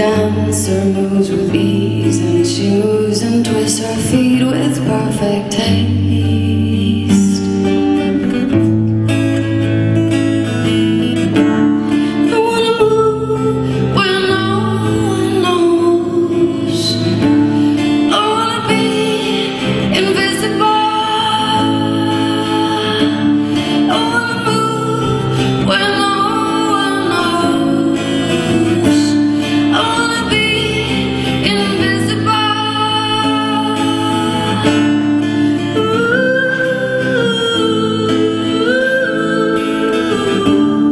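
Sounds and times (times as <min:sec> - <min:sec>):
strummed acoustic guitar: 0:00.0 - 0:40.9
woman singing: 0:00.0 - 0:40.9.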